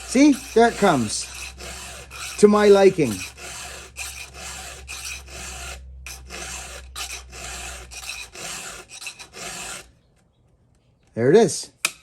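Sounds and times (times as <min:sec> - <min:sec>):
hand file rasping on saw chain: 0:00.0 - 0:09.9.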